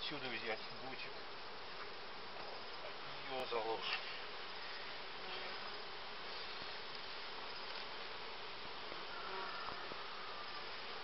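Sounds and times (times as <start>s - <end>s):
honeybees humming: 0.1s - 11.0s.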